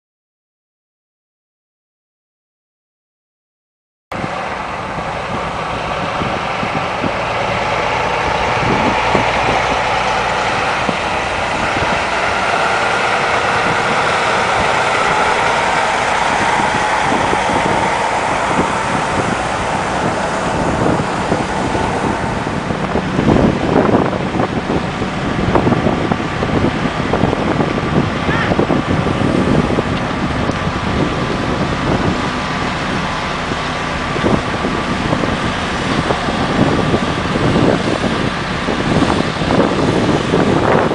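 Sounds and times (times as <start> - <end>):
road noise: 4.1 - 40.9
truck engine running: 4.1 - 40.9.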